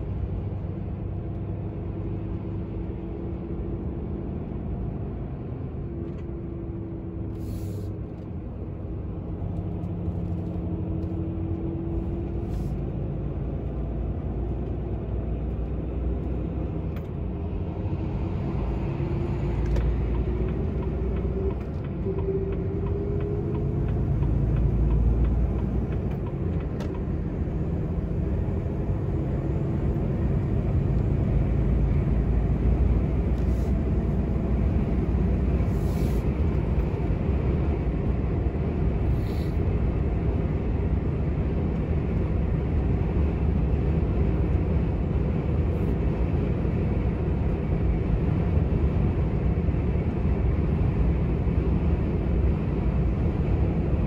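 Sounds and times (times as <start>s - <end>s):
diesel truck engine rumbling: 0.0s - 54.0s
road noise: 0.0s - 54.0s.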